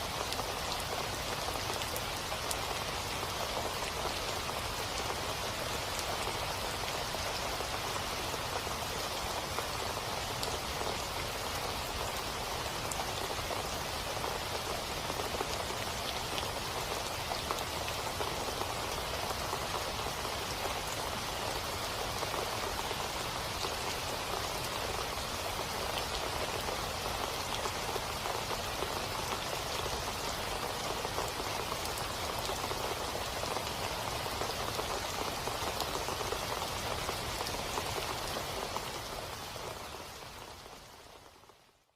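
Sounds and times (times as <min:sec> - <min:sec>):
rain falling: 0:00.0 - 0:41.9.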